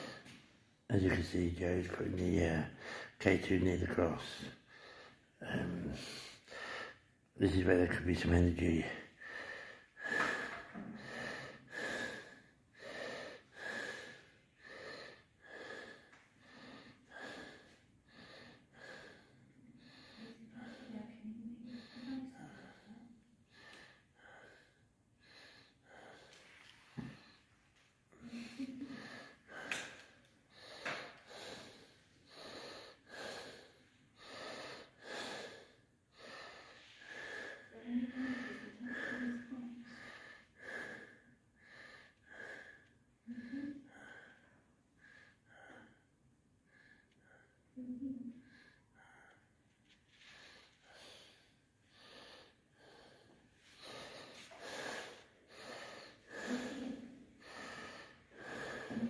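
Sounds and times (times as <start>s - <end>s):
breathing close to microphone: 0.0s - 0.6s, 4.1s - 7.1s, 8.4s - 46.1s, 48.2s - 59.0s.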